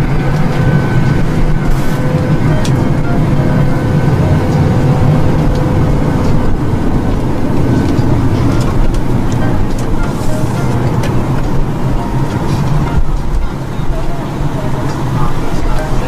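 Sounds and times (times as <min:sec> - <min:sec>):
jet airliner cabin rumble: 0:00.0 - 0:16.0.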